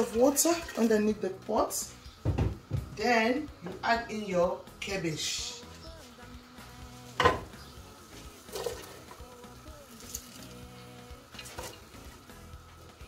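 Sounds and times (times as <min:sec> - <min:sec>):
quiet background music: 0:00.0 - 0:13.0.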